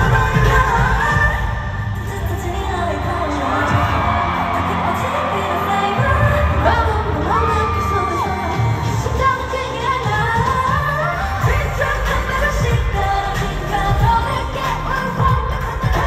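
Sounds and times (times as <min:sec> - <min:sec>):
pop backing track with bass beat: 0:00.0 - 0:16.0
women singing: 0:00.0 - 0:16.0.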